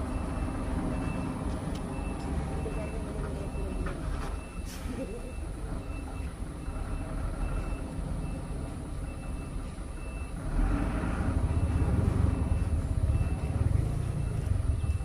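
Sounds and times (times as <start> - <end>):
heavy truck engine under load: 0.0 - 15.0.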